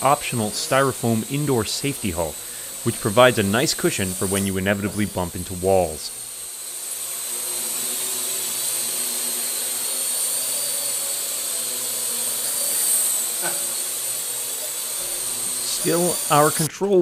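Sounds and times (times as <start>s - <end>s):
drone propellers buzzing: 0.0s - 16.7s
high-pitched whine: 0.0s - 16.7s.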